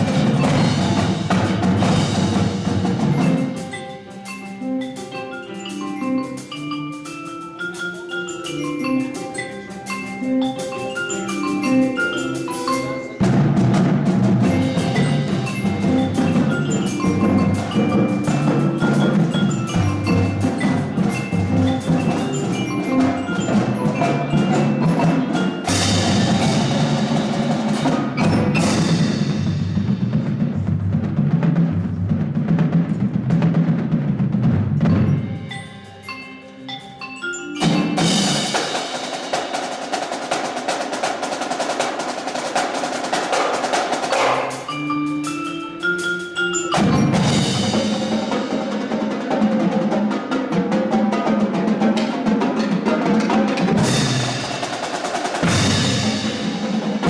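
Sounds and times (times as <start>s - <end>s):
mallet keyboard melody: 0.0s - 57.0s
percussion ensemble playing: 0.0s - 57.0s.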